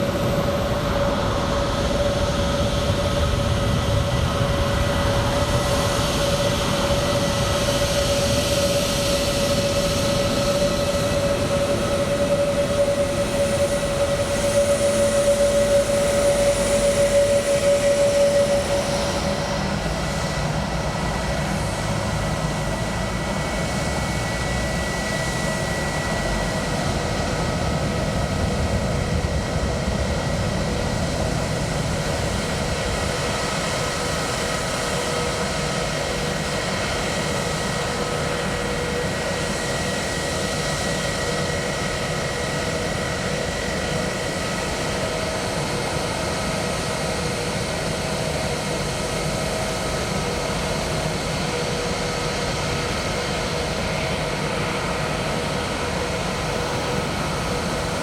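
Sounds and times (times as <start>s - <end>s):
jet engine high whine: 0.0s - 58.0s
jet engines rumbling: 0.0s - 58.0s.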